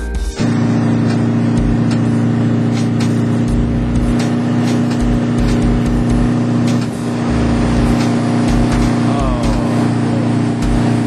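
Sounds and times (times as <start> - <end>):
boat engine drone: 0.4 - 11.0.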